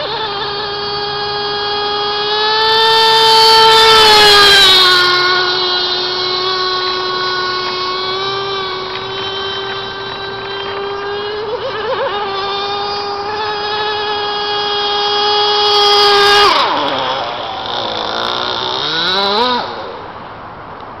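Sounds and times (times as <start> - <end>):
model boat engine whining: 0.0 - 21.0.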